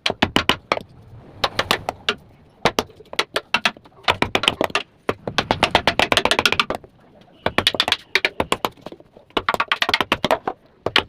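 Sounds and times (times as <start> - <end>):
sharp clicks and knocks of weaving: 0.0 - 6.8, 7.4 - 11.0.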